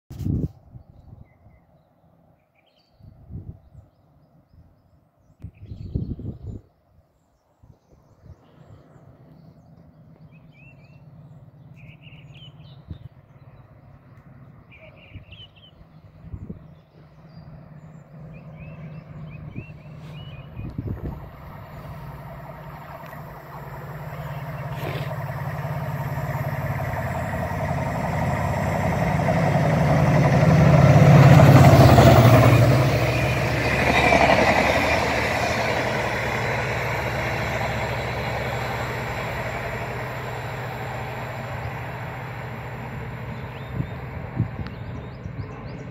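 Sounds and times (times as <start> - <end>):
passenger train passing: 8.7 - 45.9.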